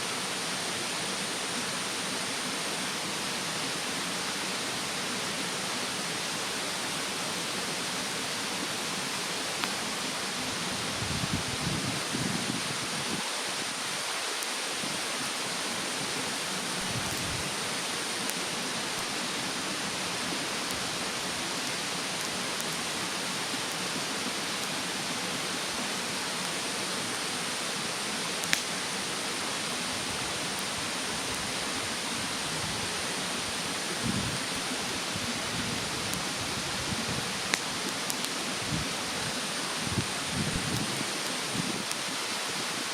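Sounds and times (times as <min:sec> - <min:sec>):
stream rushing: 0:00.0 - 0:42.9
wood fire crackling: 0:07.7 - 0:42.9.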